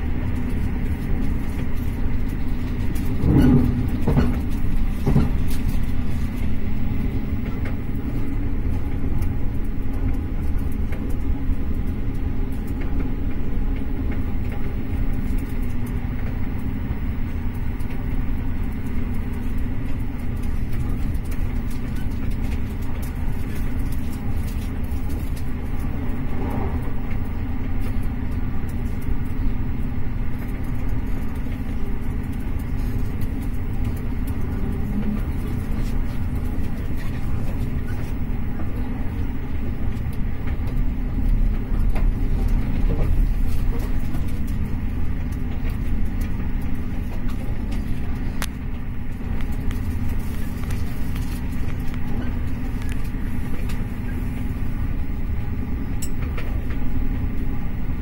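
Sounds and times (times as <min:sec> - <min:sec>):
low hum: 0:00.0 - 0:58.0
train wheels rumbling on rails: 0:00.0 - 0:58.0.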